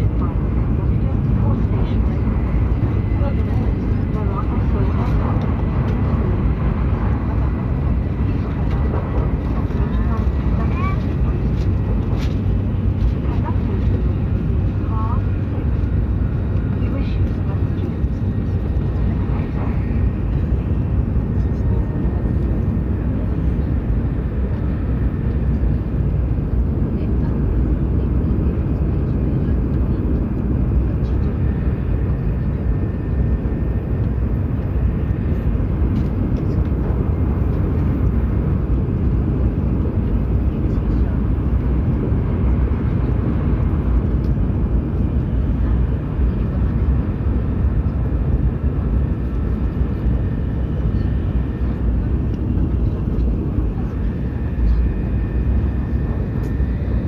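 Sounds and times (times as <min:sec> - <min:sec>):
train rumbling inside passenger car: 0:00.0 - 0:57.0.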